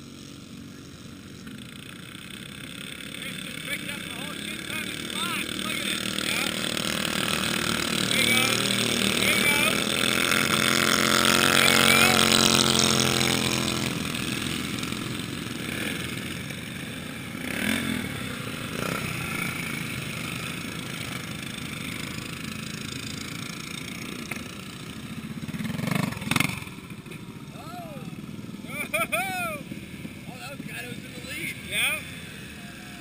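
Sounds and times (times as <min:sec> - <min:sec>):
distant mower engines humming: 0:00.0 - 0:33.0
lawn tractor engine racing: 0:00.0 - 0:33.0.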